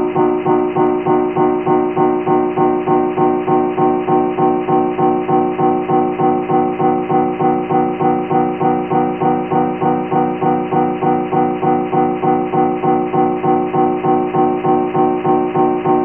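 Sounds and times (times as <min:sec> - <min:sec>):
pulsing vocoder drone: 0:00.0 - 0:16.0.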